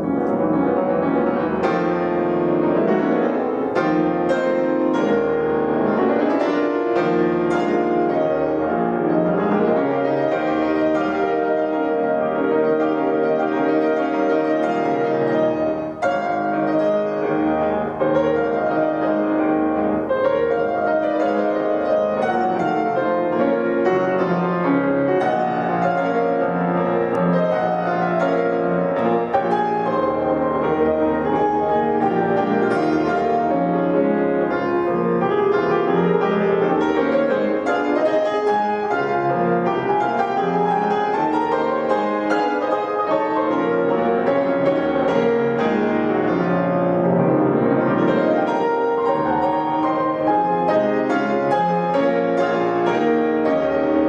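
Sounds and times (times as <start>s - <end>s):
classical piano playing: 0.0s - 54.0s.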